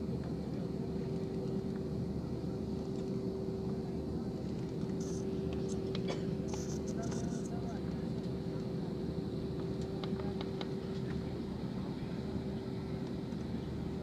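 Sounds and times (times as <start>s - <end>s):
jet engines rumbling in cabin: 0.0s - 14.0s.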